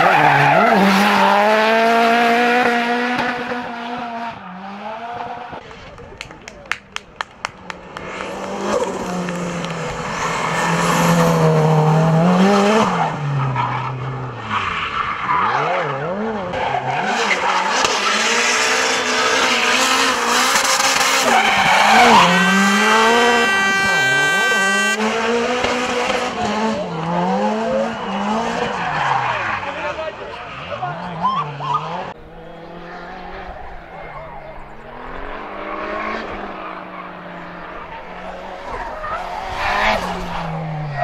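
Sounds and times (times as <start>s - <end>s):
tyres squealing and skidding: 0.0s - 1.9s, 8.1s - 41.0s
race car engine revving: 0.0s - 41.0s.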